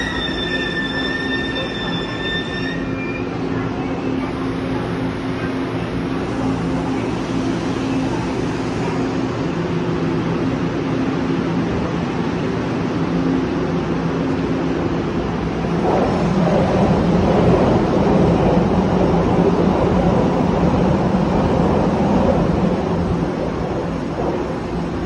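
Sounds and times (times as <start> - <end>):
train mechanical hum: 0.0 - 25.0.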